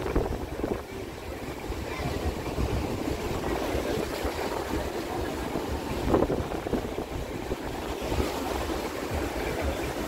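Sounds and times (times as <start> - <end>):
noisy background: 0.0 - 10.0
wind buffeting microphone: 0.0 - 10.0.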